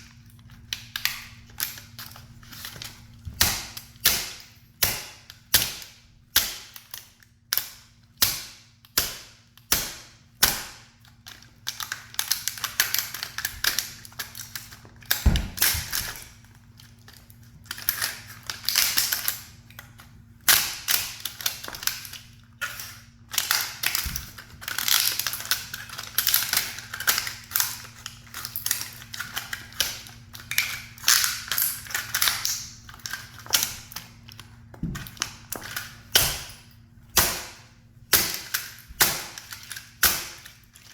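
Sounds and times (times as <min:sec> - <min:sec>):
plastic toy cracking and crunching: 0:00.0 - 0:36.6, 0:37.2 - 0:40.9.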